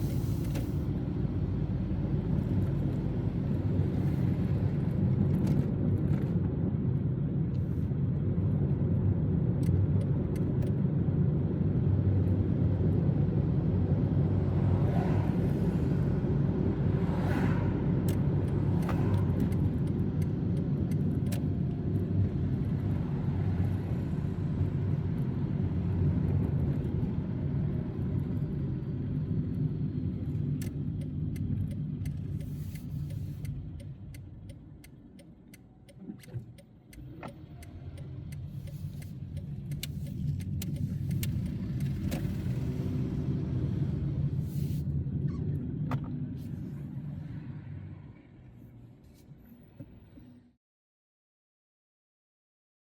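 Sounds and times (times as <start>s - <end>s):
car engine rumble: 0.0s - 50.5s
road noise: 0.0s - 50.6s.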